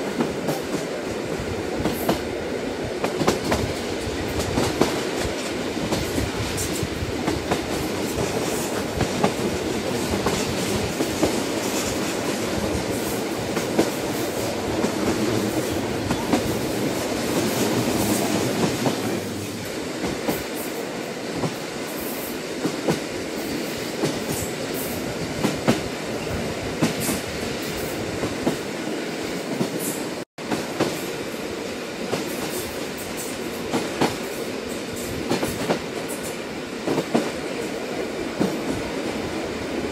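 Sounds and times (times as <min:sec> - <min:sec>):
train rumbling along track: 0:00.0 - 0:39.9.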